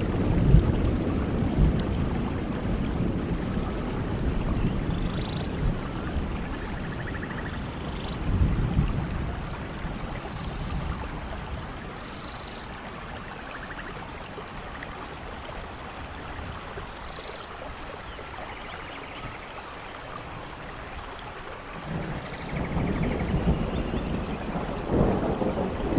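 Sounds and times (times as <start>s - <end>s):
low rumble of thunder: 0.0s - 17.0s, 21.5s - 25.9s
steady rain falling: 0.0s - 25.9s.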